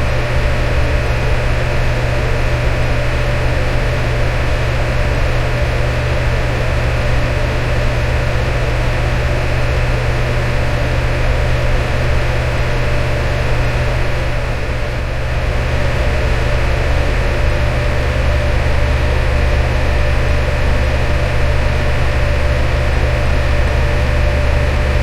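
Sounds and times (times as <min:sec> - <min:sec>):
electric fan running: 0:00.0 - 0:25.0.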